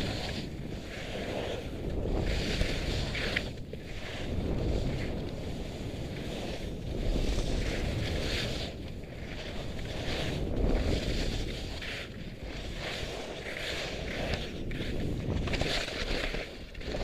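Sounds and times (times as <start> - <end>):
skis carving on snow: 0.0 - 17.0
wind buffeting microphone: 0.0 - 17.0.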